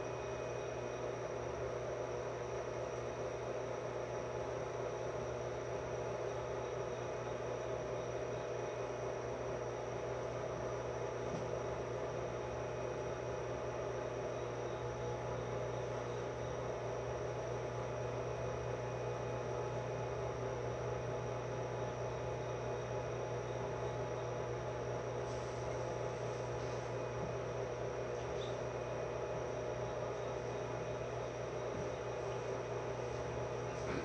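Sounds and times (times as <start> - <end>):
electrical hum in train: 0.0 - 34.0.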